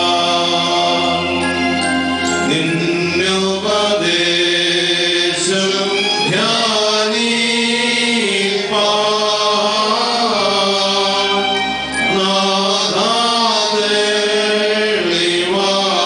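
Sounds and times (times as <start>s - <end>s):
men chanting in long notes: 0.0s - 1.5s, 2.5s - 16.0s.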